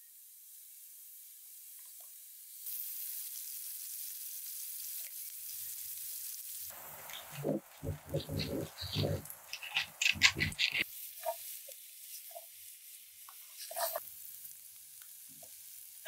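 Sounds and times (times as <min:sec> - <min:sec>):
carrots sizzling in oil: 0:00.0 - 0:16.0.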